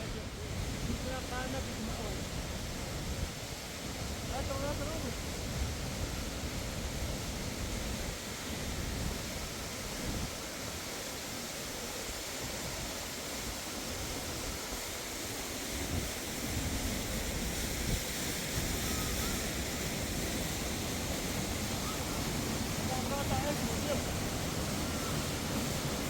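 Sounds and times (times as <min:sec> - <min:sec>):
water flowing: 0:00.0 - 0:26.0.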